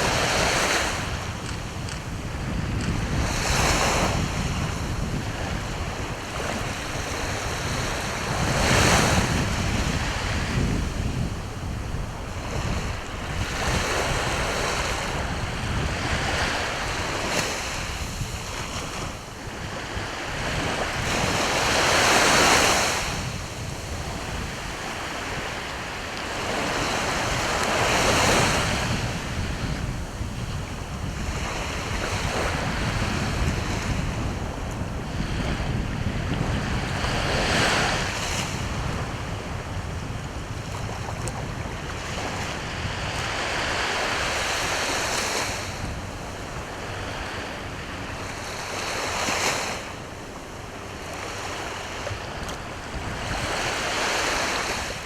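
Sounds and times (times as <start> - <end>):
sea waves breaking: 0.0 - 55.0
wind buffeting microphone: 0.0 - 55.0.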